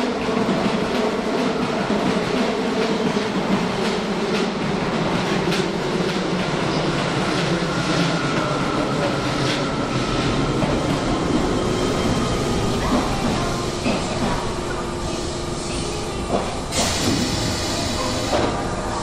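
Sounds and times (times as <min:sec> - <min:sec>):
electric train running on track: 0:00.0 - 0:19.0.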